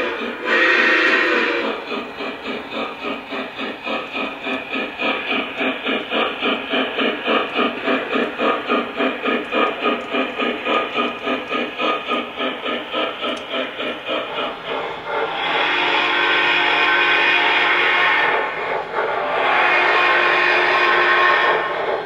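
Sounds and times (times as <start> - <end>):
model steam locomotive chuffing: 0.0 - 22.0.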